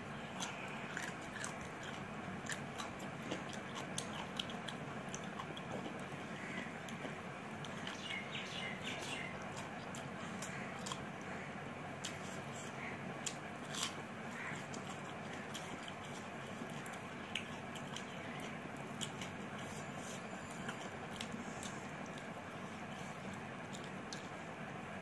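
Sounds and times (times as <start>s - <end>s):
person chewing food: 0.1s - 8.0s, 8.9s - 11.3s, 11.9s - 24.5s.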